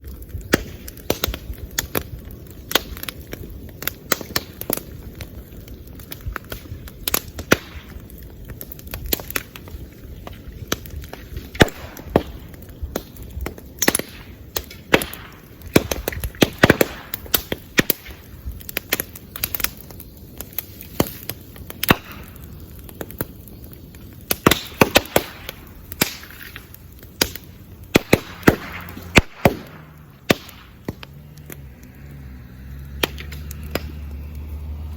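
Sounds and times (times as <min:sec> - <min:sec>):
bamboo popping and cracking: 0:00.0 - 0:34.9
fire crackling: 0:00.0 - 0:34.9
fire hissing: 0:00.0 - 0:34.9.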